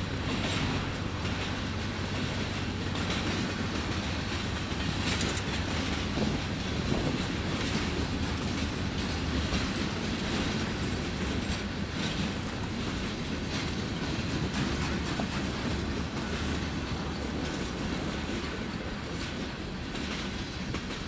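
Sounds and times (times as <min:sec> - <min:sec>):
train wheels rumbling on rail: 0:00.0 - 0:21.0
wheels clicking over track: 0:00.0 - 0:21.0.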